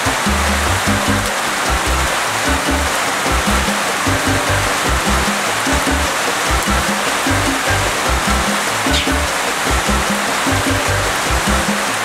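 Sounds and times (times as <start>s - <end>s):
music with low bass beat: 0.0s - 11.7s
rain hiss: 0.0s - 12.0s.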